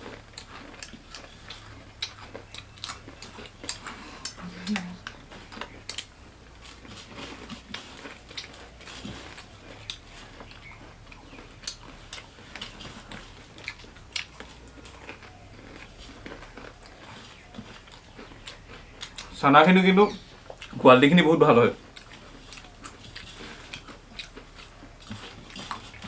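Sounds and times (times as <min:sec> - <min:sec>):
people crunching crisp snack: 0:00.0 - 0:26.0.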